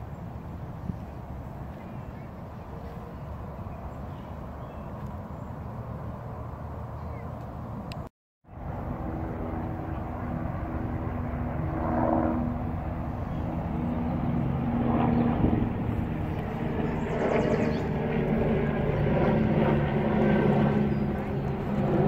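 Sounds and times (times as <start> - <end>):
engine drone: 0.0 - 22.0
rushing outdoor noise: 0.0 - 22.0.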